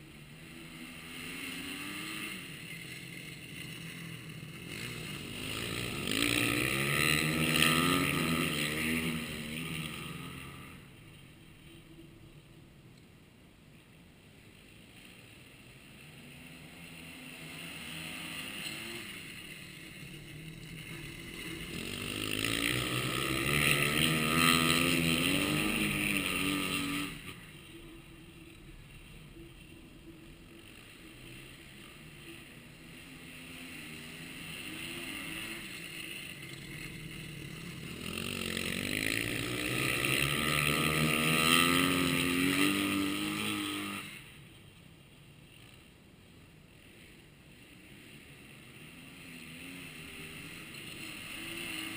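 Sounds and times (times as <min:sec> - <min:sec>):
motorcycle engine passing: 0:00.0 - 0:12.4, 0:15.4 - 0:44.7, 0:46.7 - 0:51.9.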